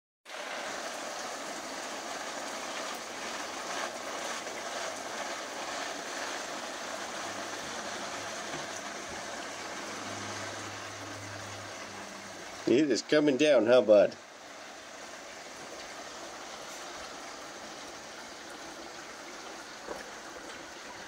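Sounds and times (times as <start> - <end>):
heavy rain on pavement: 0.2 - 21.0.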